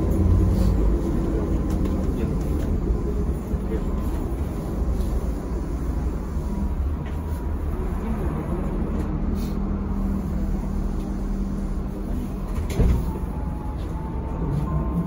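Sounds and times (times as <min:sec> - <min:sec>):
trolleybus cabin rumble: 0:00.0 - 0:15.0
trolleybus hum: 0:00.0 - 0:15.0.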